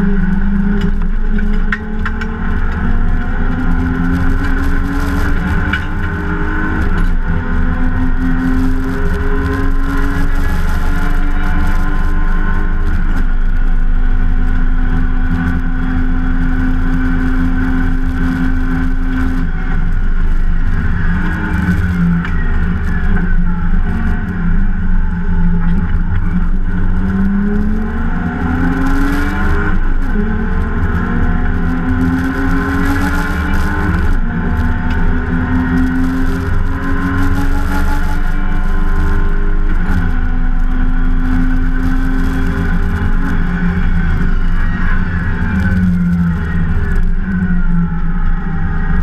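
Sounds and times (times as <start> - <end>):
race car engine revving: 0.0 - 49.0.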